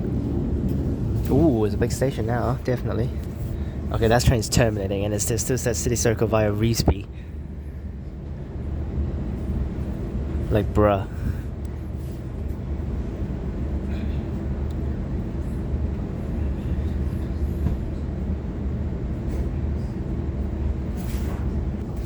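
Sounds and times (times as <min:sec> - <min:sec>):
train carriage hum and rumble: 0:00.0 - 0:22.0.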